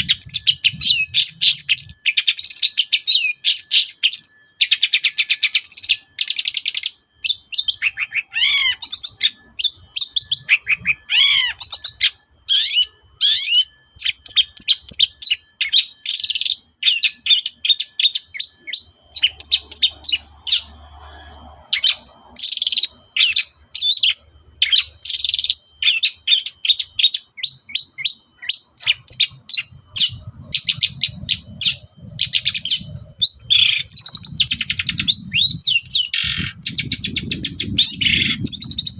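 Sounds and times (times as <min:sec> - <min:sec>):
bird singing chattering song: 0:00.0 - 0:38.9.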